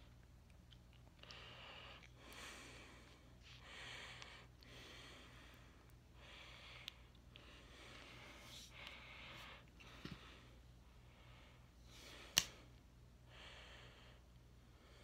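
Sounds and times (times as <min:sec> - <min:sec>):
slow breathing: 0:01.2 - 0:15.0.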